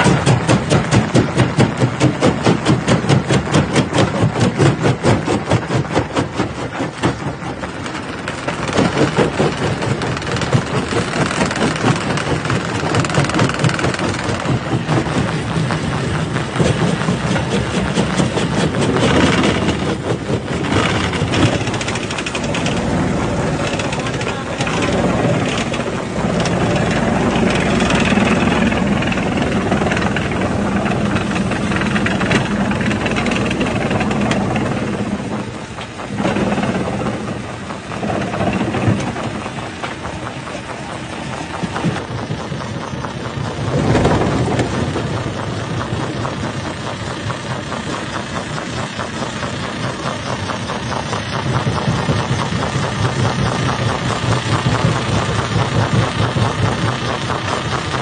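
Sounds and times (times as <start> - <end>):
rock crushing machine rattling: 0.0 - 58.0.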